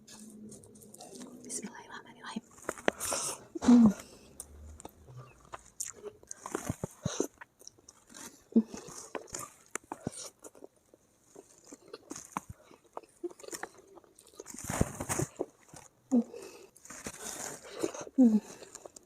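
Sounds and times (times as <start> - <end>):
person chewing with crunches: 0.0 - 1.7, 2.4 - 19.0.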